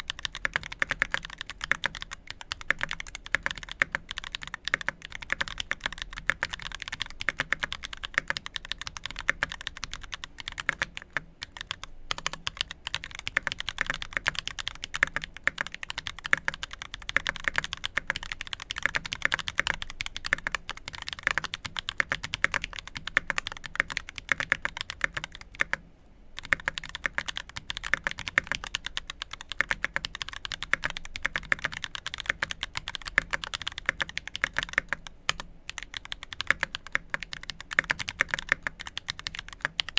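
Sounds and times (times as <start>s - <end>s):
mechanical keyboard typing: 0.0s - 25.8s, 26.4s - 39.9s.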